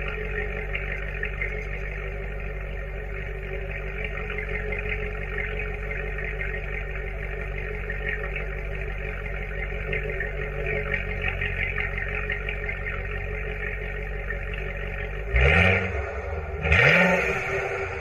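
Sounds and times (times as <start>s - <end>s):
car engine idling: 0.0s - 18.0s
engine throttle blip: 0.0s - 18.0s.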